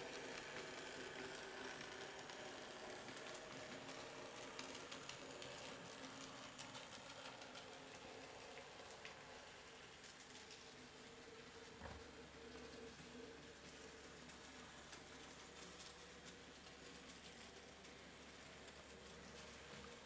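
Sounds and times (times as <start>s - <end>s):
model locomotive motor whirring: 0.0s - 20.0s.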